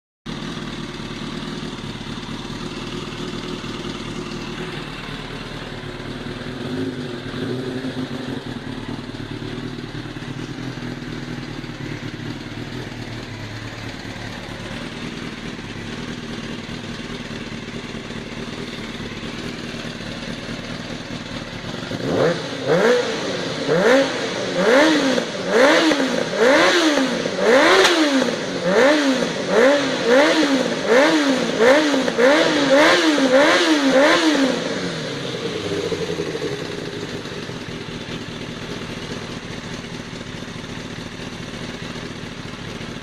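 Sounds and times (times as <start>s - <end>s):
motorcycle engine idling and revving: 0.3s - 43.0s.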